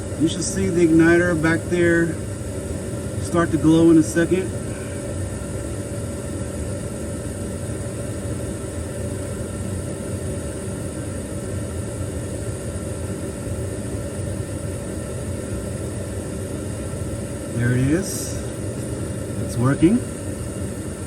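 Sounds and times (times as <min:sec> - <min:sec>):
furnace fan motor humming: 0:00.0 - 0:21.0.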